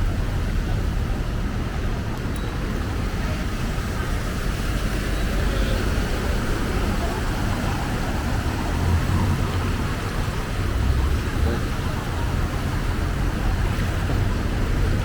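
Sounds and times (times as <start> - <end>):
faint indistinct voices: 0.0 - 15.0
traffic rumble: 0.0 - 15.0.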